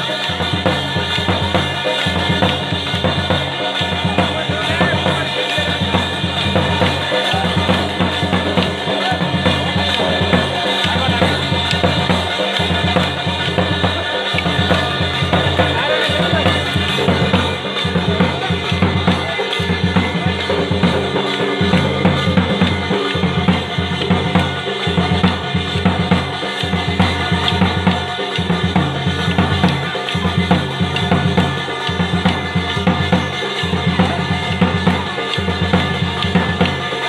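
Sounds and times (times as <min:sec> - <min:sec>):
drums beating a dense rhythm: 0:00.0 - 0:37.0.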